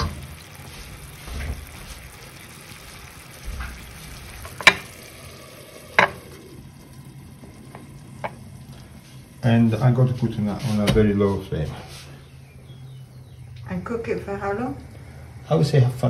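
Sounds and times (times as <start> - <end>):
food simmering in a pan: 0.0 - 16.0.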